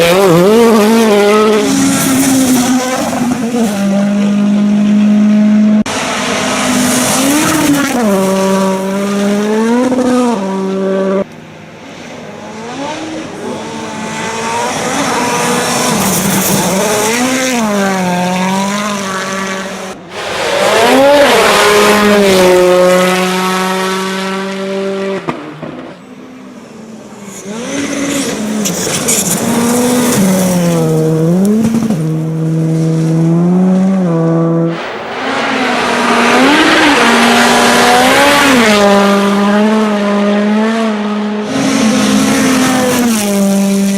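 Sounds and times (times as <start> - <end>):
racing engines revving: 0.0 - 11.3, 11.9 - 43.9.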